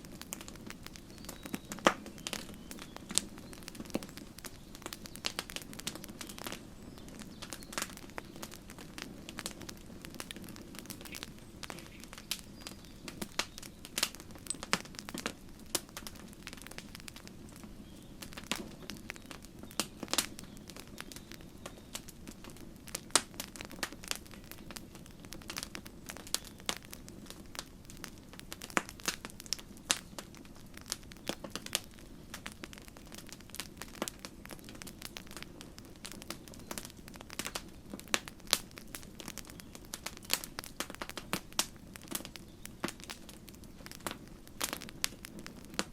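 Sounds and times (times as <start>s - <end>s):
campfire crackling: 0.0s - 45.9s
fire pops and snaps: 0.0s - 45.9s
flames rustling: 0.0s - 45.9s.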